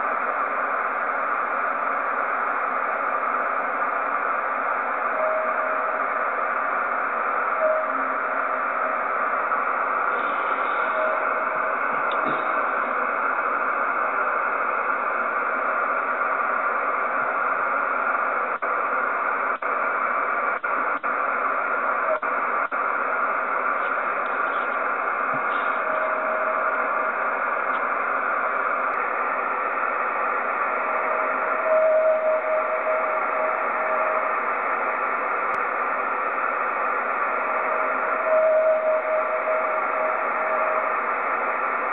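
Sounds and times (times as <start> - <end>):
radio receiver hiss: 0.0 - 41.9
whistle-like radio tone: 3.0 - 35.6, 37.0 - 41.9.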